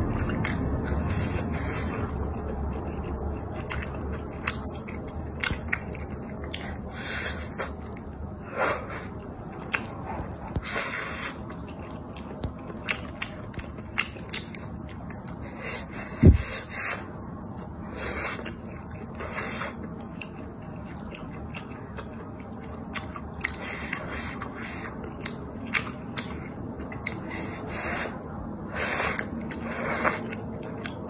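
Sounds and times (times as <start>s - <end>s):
wet chewing and lip smacking: 0.0s - 31.0s.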